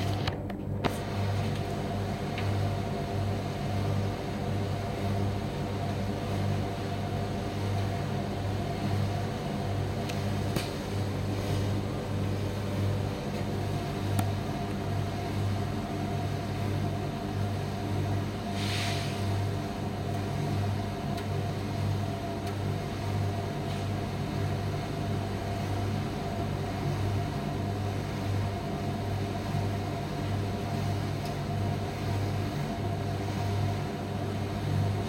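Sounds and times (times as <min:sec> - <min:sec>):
tumble dryer running: 0:00.0 - 0:35.0.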